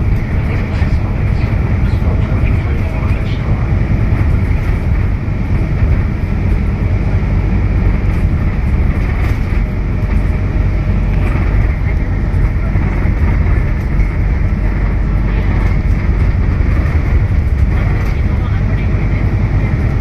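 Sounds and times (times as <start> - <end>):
bus drivetrain and road rumble: 0.0 - 20.0.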